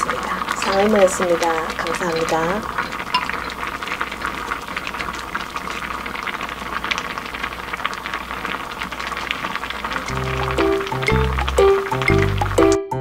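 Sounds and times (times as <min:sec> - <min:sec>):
stew bubbling and popping: 0:00.0 - 0:12.8.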